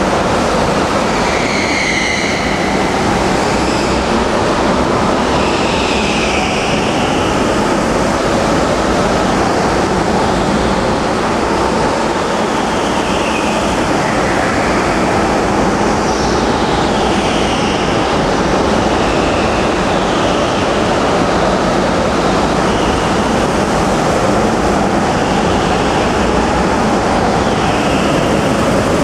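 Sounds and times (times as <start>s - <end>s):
go-kart motors din: 0.0s - 29.0s
karts passing with whines: 0.0s - 29.0s.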